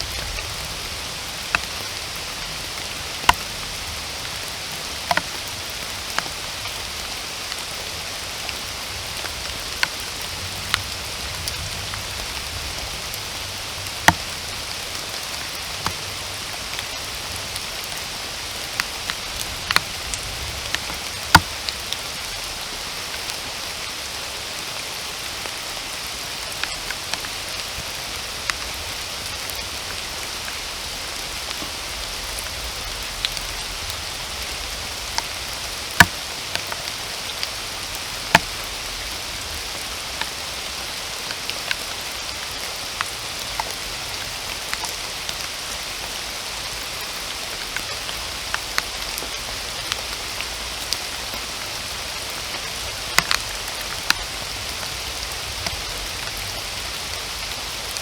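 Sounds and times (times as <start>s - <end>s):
heavy raindrops ticking: 0.0s - 23.4s, 25.2s - 58.0s
steady rain hiss: 0.0s - 58.0s.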